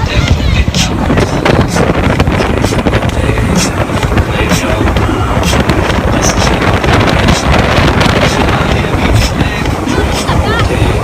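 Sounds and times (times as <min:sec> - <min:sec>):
boat engines rumbling: 0:00.0 - 0:11.0
hull hitting waves: 0:00.0 - 0:11.0
water rushing: 0:00.0 - 0:11.0
wind buffeting microphone: 0:00.0 - 0:11.0.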